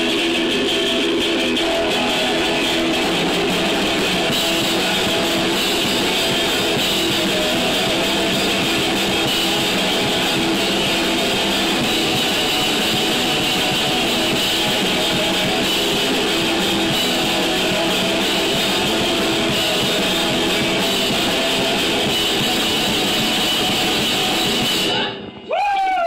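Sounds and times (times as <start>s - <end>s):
rock band playing live: 0.0s - 25.4s
strummed electric guitar: 0.0s - 25.5s.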